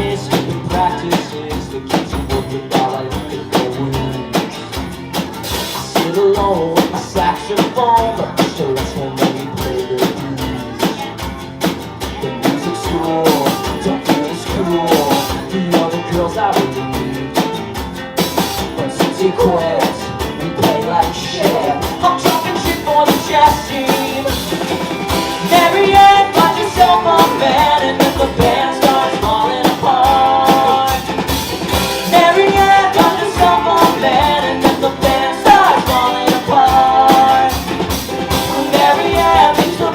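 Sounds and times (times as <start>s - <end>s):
person singing: 0.0s - 11.4s, 12.0s - 17.6s, 18.6s - 39.9s
drum kit: 0.0s - 39.9s
electric guitars: 0.0s - 39.9s.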